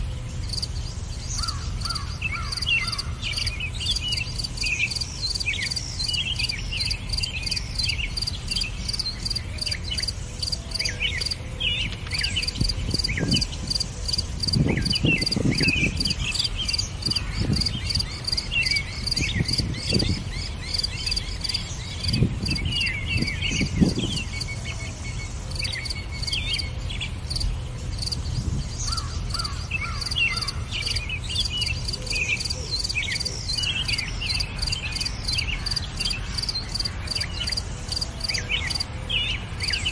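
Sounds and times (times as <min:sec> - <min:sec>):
bird chirps and calls: 0:00.0 - 0:39.9
insects trilling: 0:00.0 - 0:39.9.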